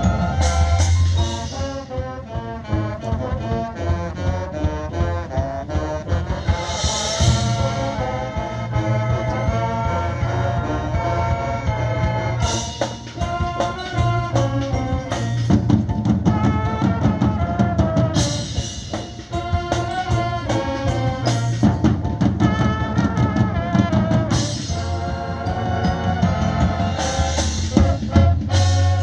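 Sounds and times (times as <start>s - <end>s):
brass band chords and melody: 0.0s - 29.0s
marching drumline: 0.0s - 29.0s.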